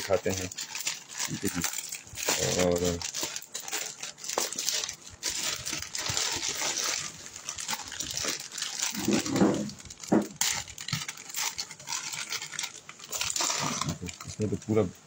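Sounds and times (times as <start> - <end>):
plastic packaging crinkling: 0.0 - 14.9.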